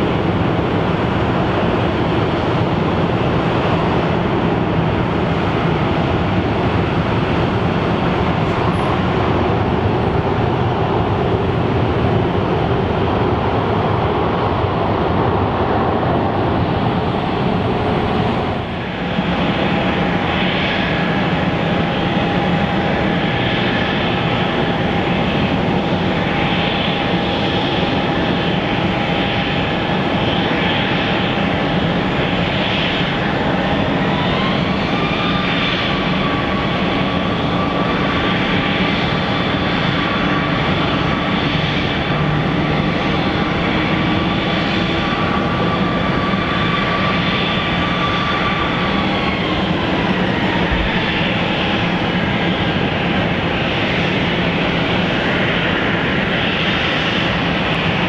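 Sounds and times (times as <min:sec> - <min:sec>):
airliner engines whining: 0:00.0 - 0:58.0.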